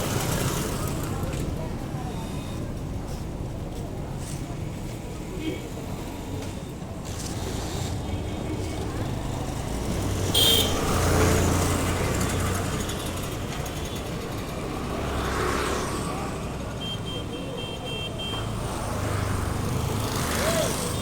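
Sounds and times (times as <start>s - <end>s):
vehicle engines passing: 0.0s - 21.0s.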